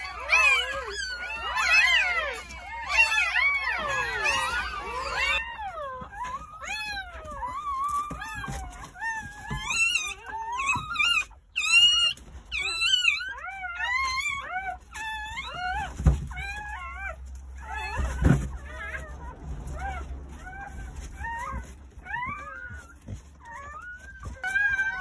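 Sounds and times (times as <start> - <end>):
puppies crying: 0.0 - 25.0.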